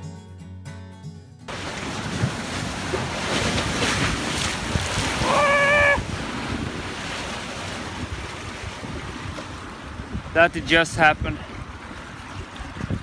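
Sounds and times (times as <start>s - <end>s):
waves splashing against rocks: 1.5s - 13.0s
wind buffeting the microphone: 1.8s - 13.0s.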